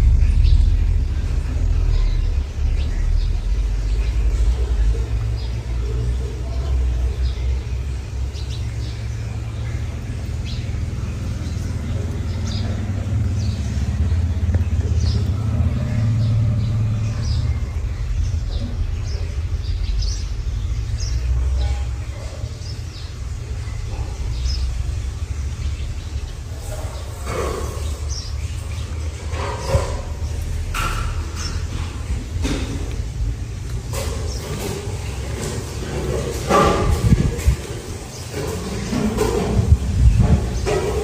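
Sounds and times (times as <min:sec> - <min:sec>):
steady low rumble: 0:00.0 - 0:34.6, 0:39.6 - 0:40.9.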